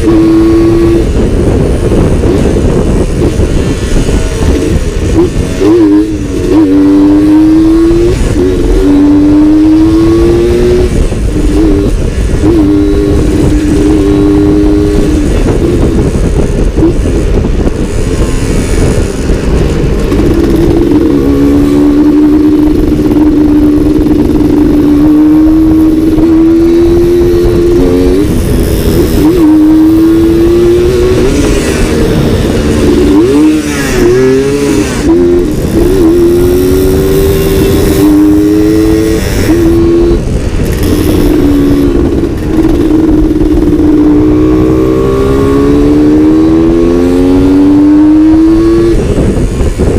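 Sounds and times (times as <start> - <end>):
two-stroke motorcycle engine: 0.0 - 49.9.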